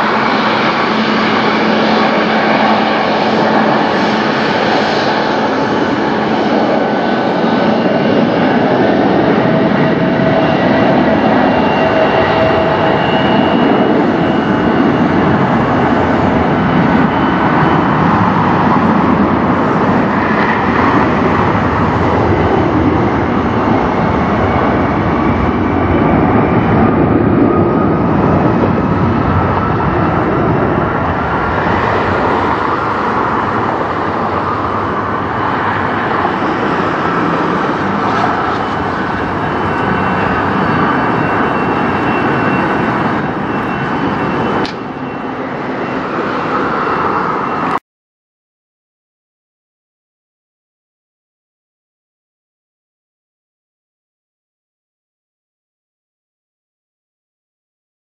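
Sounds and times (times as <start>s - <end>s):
faint engine whine: 0.0s - 47.8s
loud jet engine noise: 0.0s - 47.8s.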